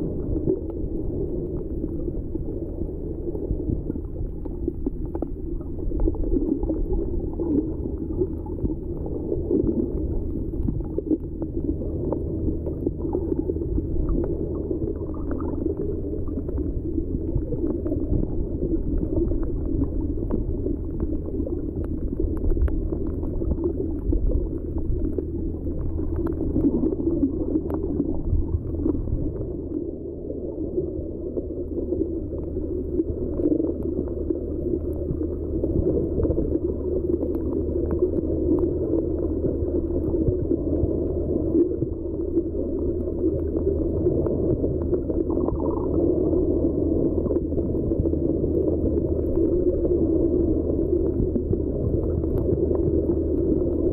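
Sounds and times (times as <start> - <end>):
low steady hum: 0.0 - 53.9
underwater rushing and gurgling: 0.0 - 53.9.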